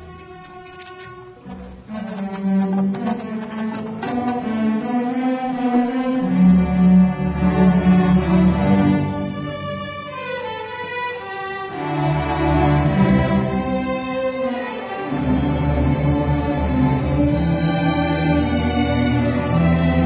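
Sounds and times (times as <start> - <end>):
string orchestra playing: 0.0 - 20.0.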